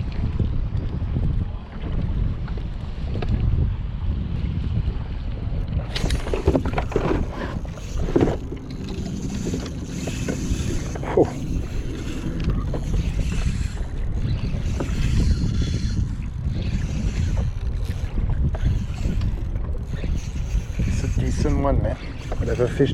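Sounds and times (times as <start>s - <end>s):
wind rumbling on microphone: 0.0s - 22.9s.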